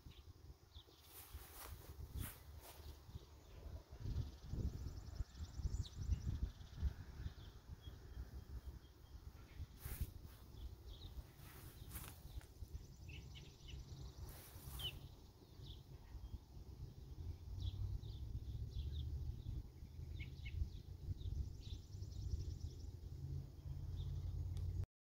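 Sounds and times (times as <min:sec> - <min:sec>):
small birds chirping: 0:00.0 - 0:24.8.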